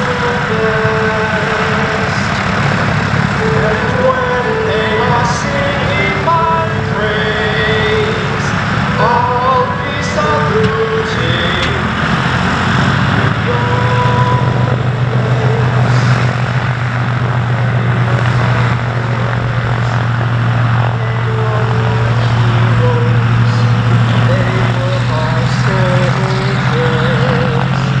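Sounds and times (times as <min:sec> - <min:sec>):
propeller plane engines droning: 0:00.0 - 0:28.0.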